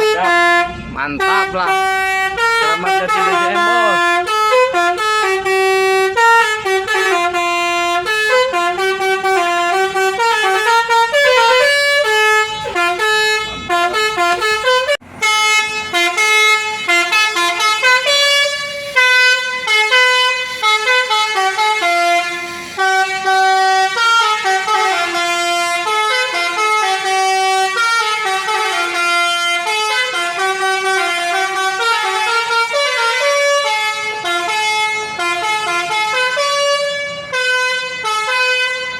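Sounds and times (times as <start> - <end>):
bus horn playing a melody: 0.0 - 38.9.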